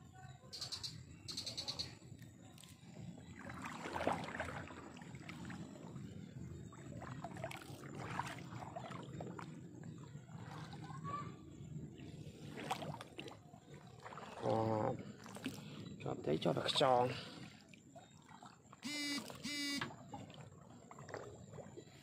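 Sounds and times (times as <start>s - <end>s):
water sloshing and splashing: 1.9s - 22.0s.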